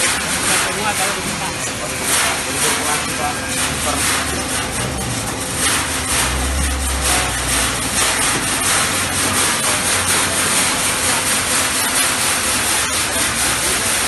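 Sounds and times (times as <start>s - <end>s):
grain pouring into machinery: 0.0s - 14.0s.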